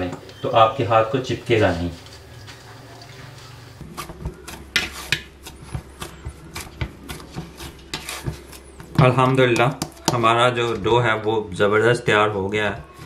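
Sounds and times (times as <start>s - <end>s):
dough kneaded in metal bowl: 2.5s - 13.0s.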